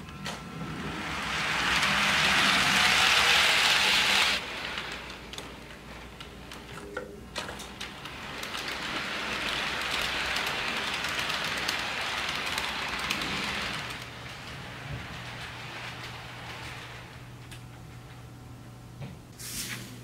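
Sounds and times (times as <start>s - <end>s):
model train wheels rushing on rails: 0.2s - 6.7s, 7.6s - 17.6s.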